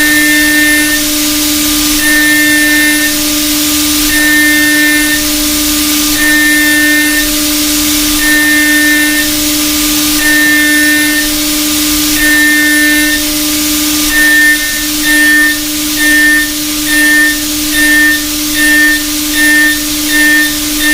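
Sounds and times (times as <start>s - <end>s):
high cutting whine: 0.0s - 20.9s
milling machine hum: 0.0s - 20.9s.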